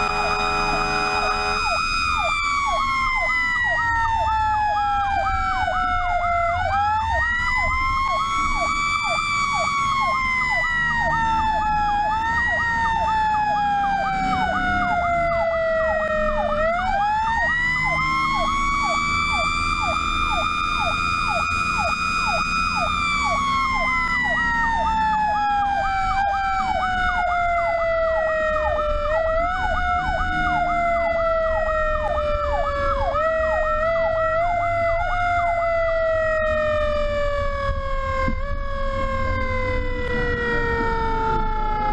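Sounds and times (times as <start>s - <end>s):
electronic siren yelp: 0.0s - 41.9s
fire truck siren wailing: 0.0s - 41.9s
truck engine rumbling: 0.0s - 41.9s.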